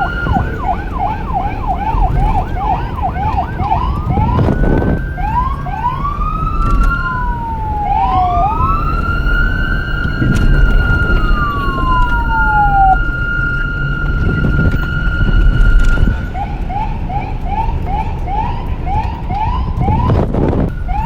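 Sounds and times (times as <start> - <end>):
police sirens wailing: 0.0 - 21.0.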